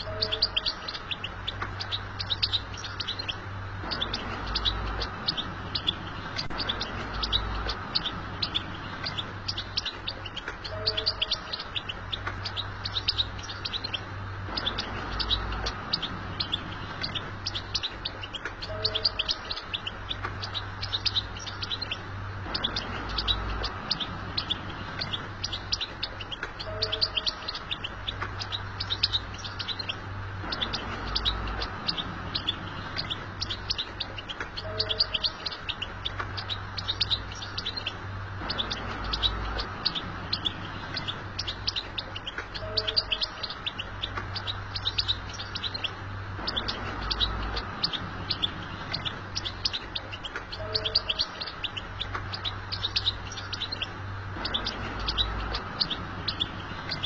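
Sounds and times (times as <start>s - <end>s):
finch twittering song: 0.0s - 57.0s.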